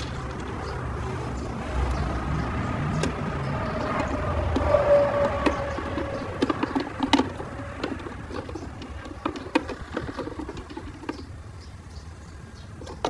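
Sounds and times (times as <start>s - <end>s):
hands clicking and tapping small parts: 0.0s - 11.4s.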